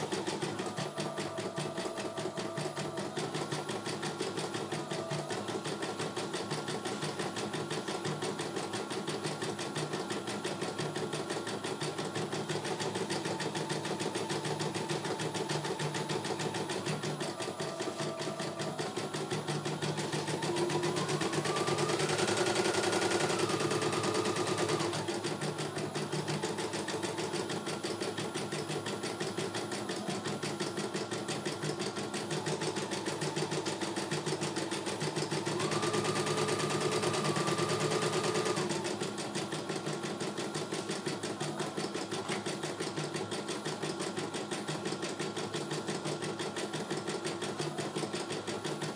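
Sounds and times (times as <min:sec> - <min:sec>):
embroidery machine stitching: 0:00.0 - 0:48.9.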